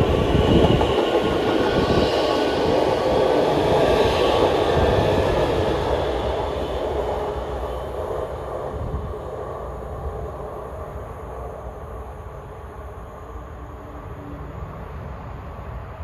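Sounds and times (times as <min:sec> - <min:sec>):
electric train running past: 0:00.0 - 0:16.0.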